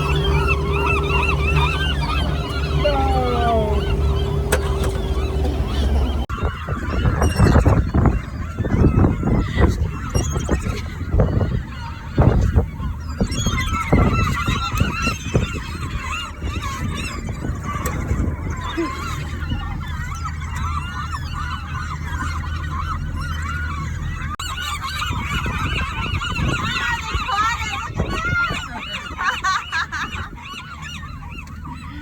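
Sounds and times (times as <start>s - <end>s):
gulls squawking: 0.0s - 32.0s
low steady rumble: 0.0s - 32.0s.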